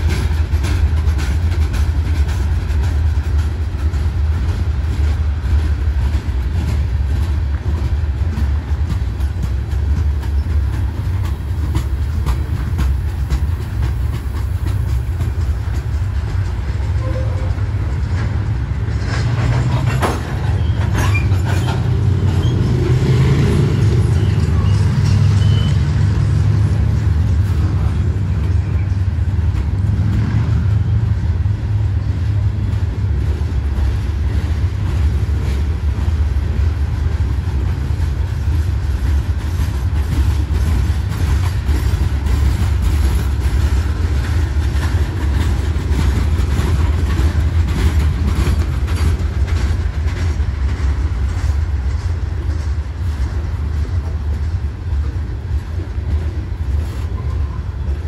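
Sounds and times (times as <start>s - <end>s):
steel wheels rumbling on rails: 0.0s - 58.0s
train wheels clicking and clacking: 0.0s - 58.0s.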